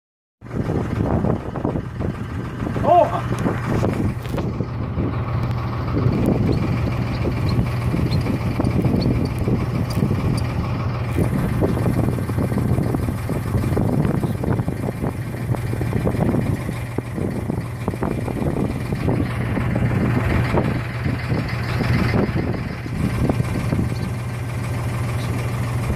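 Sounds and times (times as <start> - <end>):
boat engine humming: 0.4 - 25.9
wind buffeting microphone: 0.4 - 25.9.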